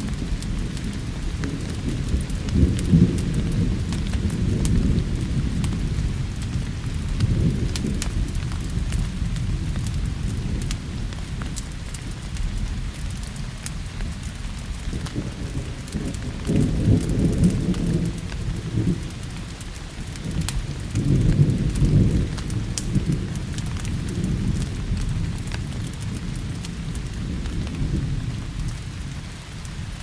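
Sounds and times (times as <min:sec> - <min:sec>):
rolling thunder: 0:00.0 - 0:30.0
steady rain: 0:00.0 - 0:30.0
wood fire crackling: 0:00.0 - 0:30.0.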